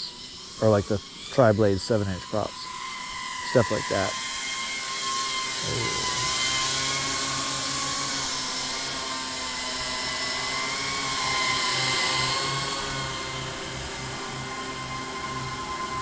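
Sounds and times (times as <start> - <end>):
drone motor and propeller hum: 0.0 - 16.0.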